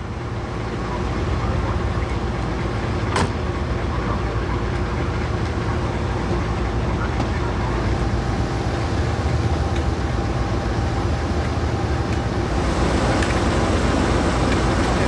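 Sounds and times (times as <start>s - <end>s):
diesel engines idling: 0.0s - 15.0s.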